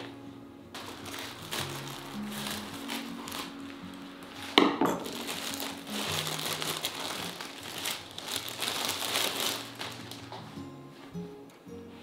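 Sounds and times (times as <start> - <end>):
plastic bag and paper crinkling: 0.0 - 11.1
soft background music: 0.0 - 12.0.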